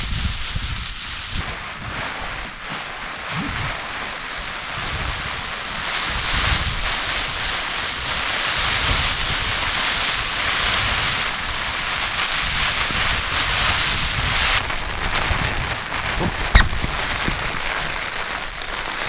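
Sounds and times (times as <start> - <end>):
strong wind buffeting microphone: 0.0 - 9.7, 10.7 - 18.6.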